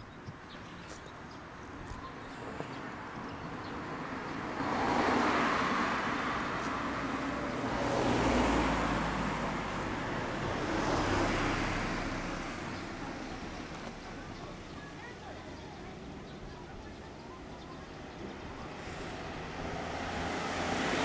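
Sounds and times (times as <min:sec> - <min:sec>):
vehicles passing by: 0:00.0 - 0:21.0.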